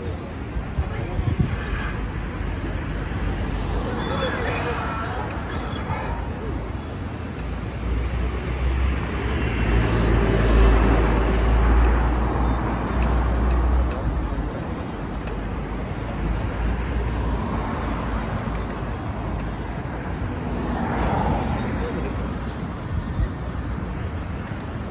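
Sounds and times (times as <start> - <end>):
city street noise: 0.0 - 24.9.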